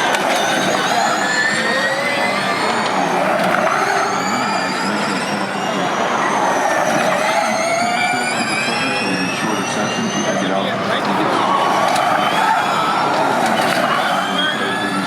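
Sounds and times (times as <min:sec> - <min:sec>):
electric race cars whining: 0:00.0 - 0:15.0
tyre and road noise: 0:00.0 - 0:15.0.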